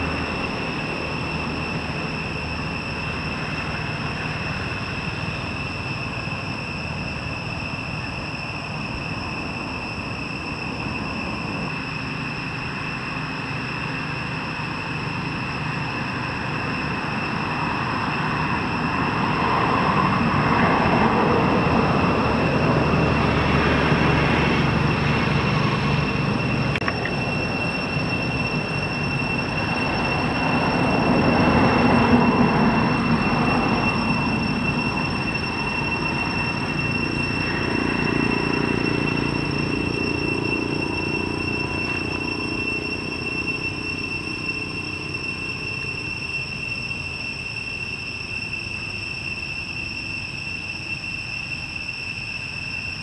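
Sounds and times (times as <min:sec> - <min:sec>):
high-pitched whine: 0:00.0 - 0:53.0.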